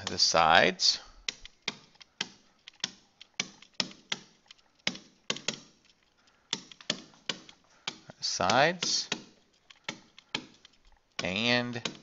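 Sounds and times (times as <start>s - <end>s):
stylus tapping on tablet: 1.2s - 12.0s.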